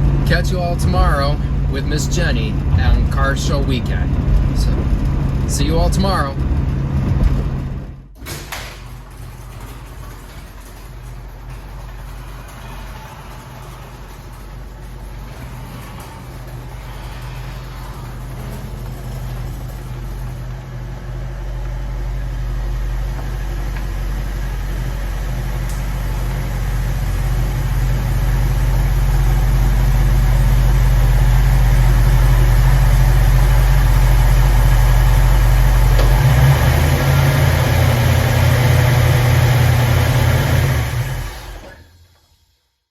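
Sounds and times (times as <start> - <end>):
car engine running: 0.0 - 8.2, 8.9 - 41.8.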